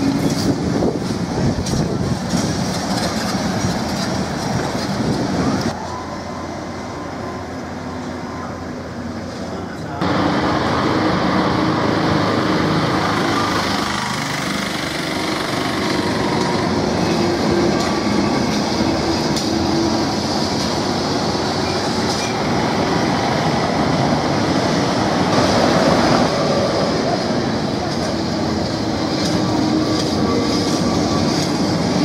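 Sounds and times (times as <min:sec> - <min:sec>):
tram wheels on rails: 0:00.0 - 0:32.0.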